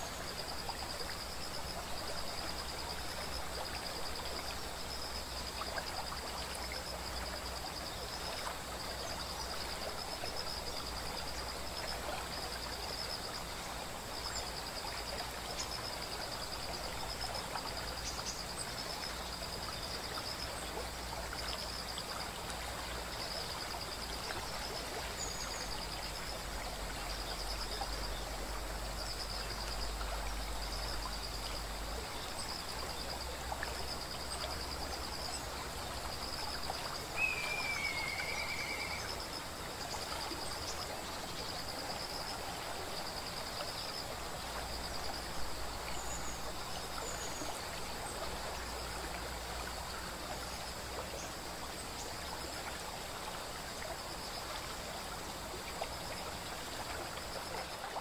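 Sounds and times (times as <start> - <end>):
waterfall and stream rushing: 0.0 - 58.0.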